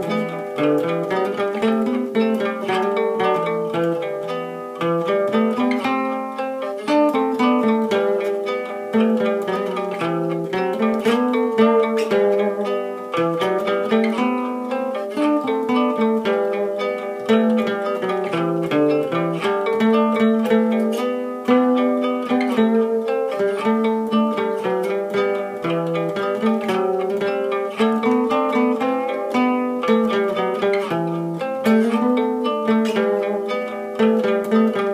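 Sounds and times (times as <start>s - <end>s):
acoustic guitar picked melody: 0.0s - 34.9s.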